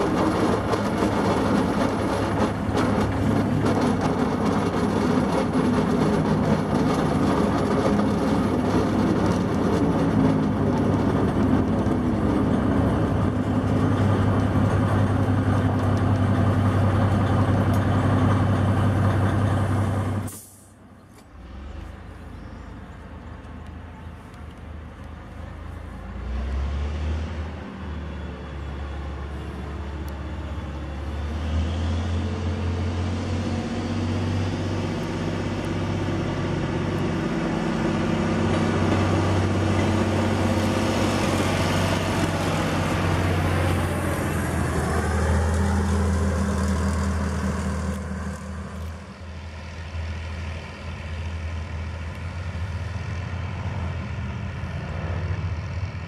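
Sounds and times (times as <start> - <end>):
locomotive engine humming: 0.0 - 56.0.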